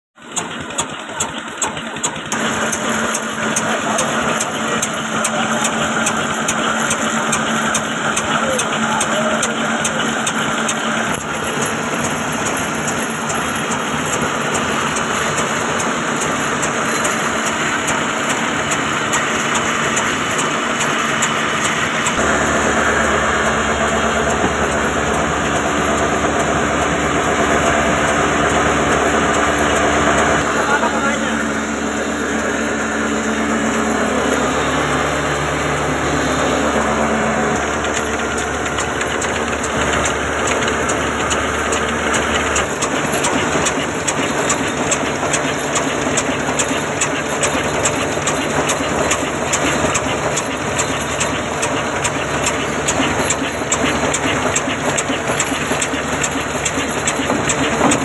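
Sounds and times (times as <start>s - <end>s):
diesel engine knocking: 0.2s - 58.0s
mill machinery whirring and rattling: 0.2s - 58.0s.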